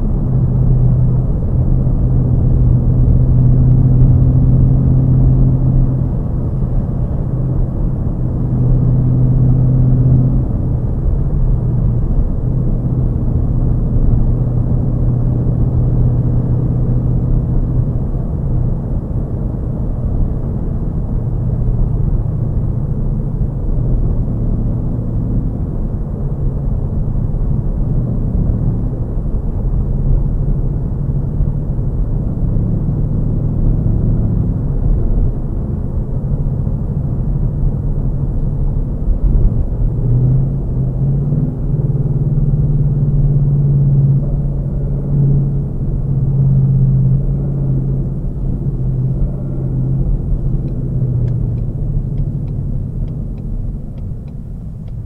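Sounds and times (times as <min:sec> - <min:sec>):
car engine rumble from inside: 0:00.0 - 0:55.0.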